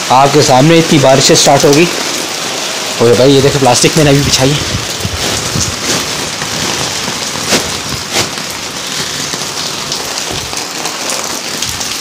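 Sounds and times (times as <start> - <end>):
heavy rain on hard ground: 0.0 - 12.0.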